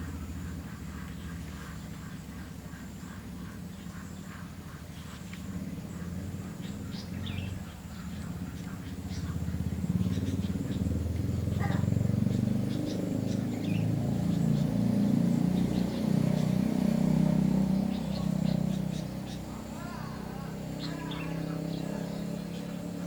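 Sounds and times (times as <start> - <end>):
small birds chirping: 0.0 - 23.0
vehicle engine running: 0.0 - 23.0.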